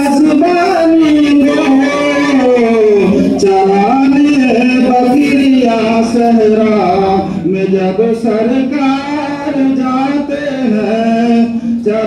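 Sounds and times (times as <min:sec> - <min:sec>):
person singing devotional song: 0:00.0 - 0:12.0.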